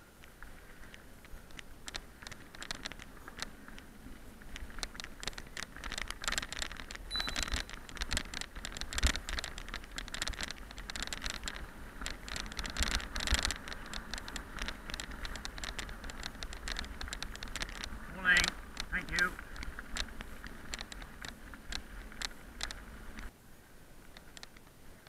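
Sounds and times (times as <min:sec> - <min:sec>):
wind rumble on microphone: 0:00.0 - 0:23.3
bike rattling and clicking: 0:00.0 - 0:25.0
tyres crunching on gravel: 0:00.2 - 0:23.3.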